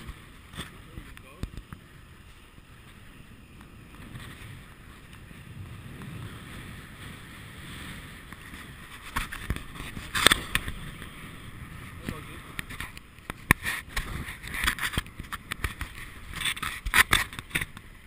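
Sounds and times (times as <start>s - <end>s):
low road rumble: 0.0s - 18.0s
wind rush: 0.0s - 18.0s.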